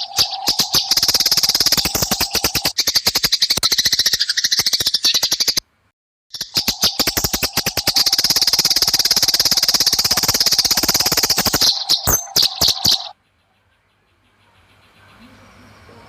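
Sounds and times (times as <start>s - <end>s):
sparrows chattering harshly: 0.0s - 5.6s, 6.3s - 15.6s.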